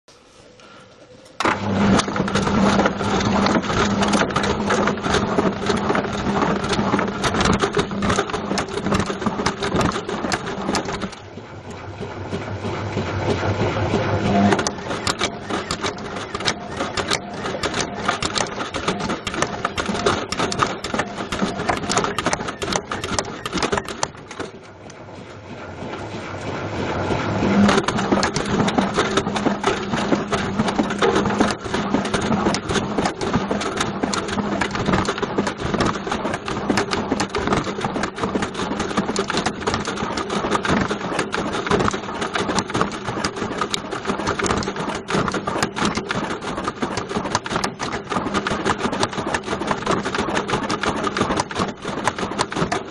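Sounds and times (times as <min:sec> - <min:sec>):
washing machine motor hum: 0:00.1 - 0:52.9
clattering and banging in washing machine: 0:01.4 - 0:24.9, 0:26.8 - 0:52.9.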